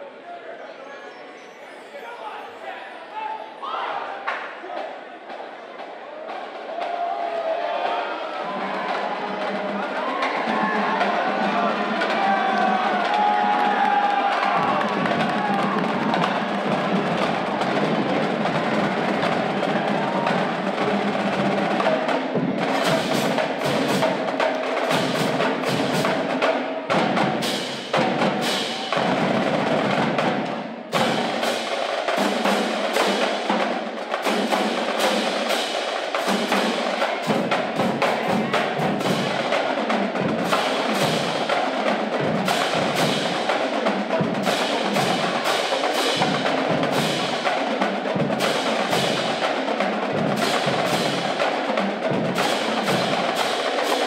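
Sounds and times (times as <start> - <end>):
marching drumline playing: 4.7 - 54.0.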